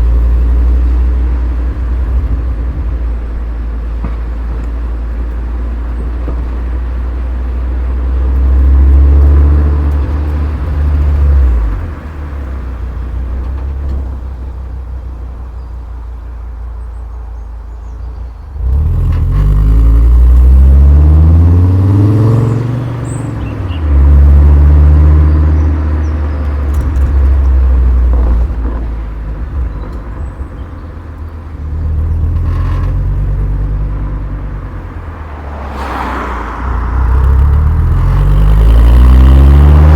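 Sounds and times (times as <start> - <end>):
car engine and exhaust rumbling: 0.0 - 39.9.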